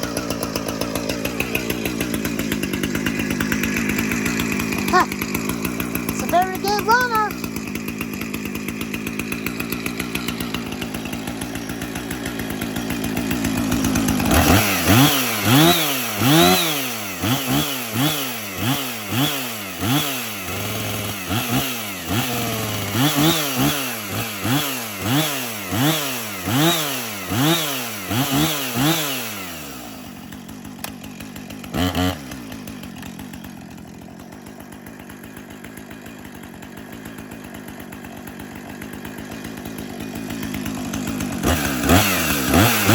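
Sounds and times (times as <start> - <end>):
chainsaw revving and idling: 0.0 - 42.9.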